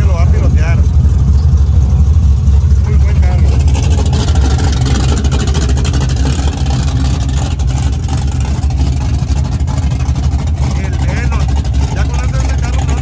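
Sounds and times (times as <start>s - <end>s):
loud car engine running: 0.0s - 13.0s.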